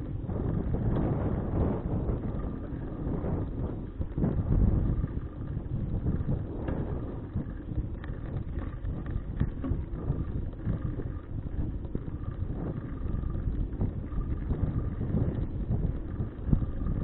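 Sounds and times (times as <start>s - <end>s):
small clicks and rattles: 0.0s - 17.0s
tyres rumbling on road: 0.0s - 17.0s
wind buffeting microphone: 0.0s - 17.0s.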